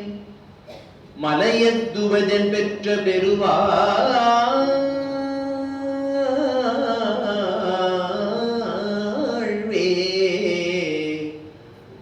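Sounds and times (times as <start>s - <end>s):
man singing a hymn: 1.2s - 11.5s.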